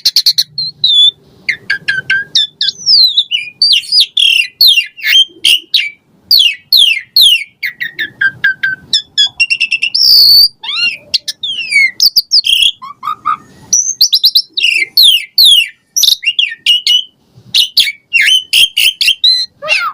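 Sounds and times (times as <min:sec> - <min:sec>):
starling singing chirps and whistles: 0:00.0 - 0:19.9.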